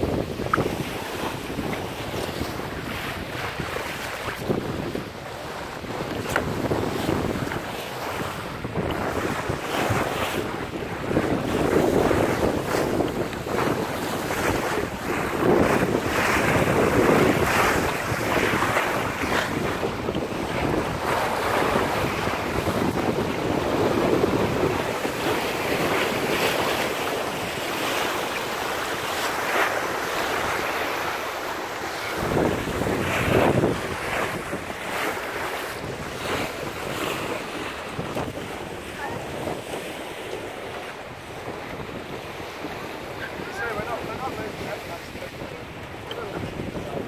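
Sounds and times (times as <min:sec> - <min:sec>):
sea splashing against yacht: 0:00.0 - 0:47.0
wind buffeting microphone: 0:00.0 - 0:47.0.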